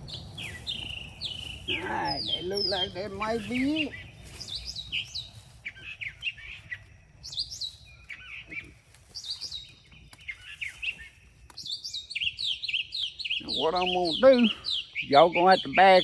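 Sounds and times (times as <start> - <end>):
faint low outdoor rumble: 0.0 - 13.5
songbird chirping: 0.0 - 16.0.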